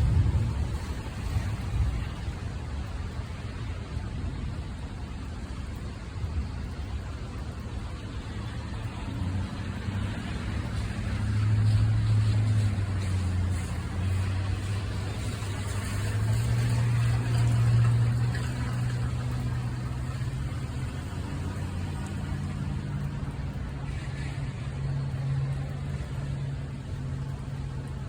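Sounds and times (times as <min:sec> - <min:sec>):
deep steady rumble: 0:00.0 - 0:28.0.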